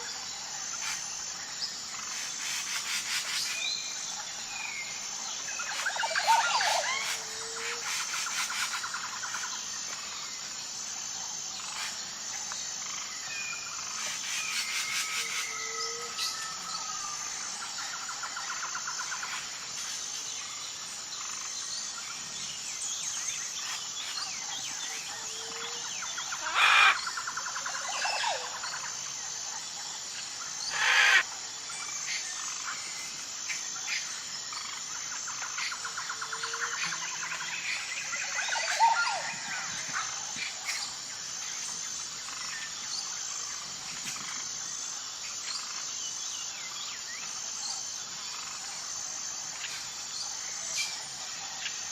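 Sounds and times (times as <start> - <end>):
birds chirping and trilling: 0.0 - 10.5, 11.5 - 44.6
pulsing insect chorus: 0.0 - 51.9.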